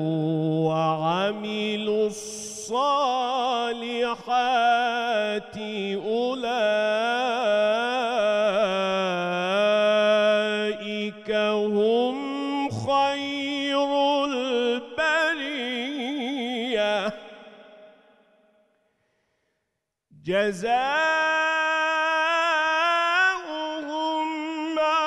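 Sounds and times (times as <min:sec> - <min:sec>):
man chanting recitation: 0:00.0 - 0:17.4, 0:20.2 - 0:25.0.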